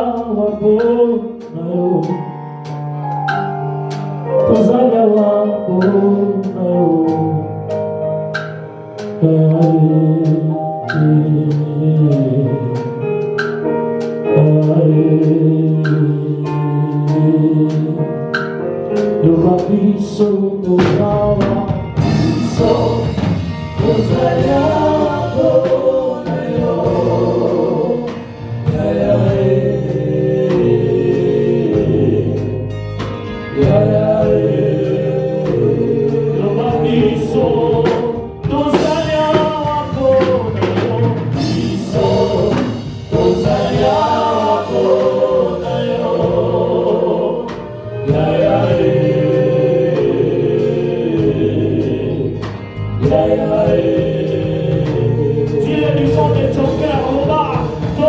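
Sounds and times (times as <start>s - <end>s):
band with bass and drum beat: 0.0s - 58.0s
voices singing worship song: 0.0s - 58.0s.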